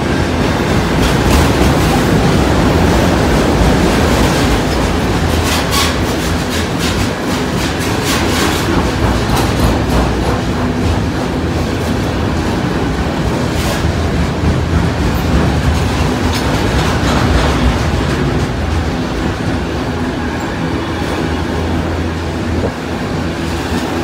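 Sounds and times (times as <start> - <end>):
freight train rumbling past: 0.0 - 24.0
train wheels clacking on rail joints: 0.0 - 24.0.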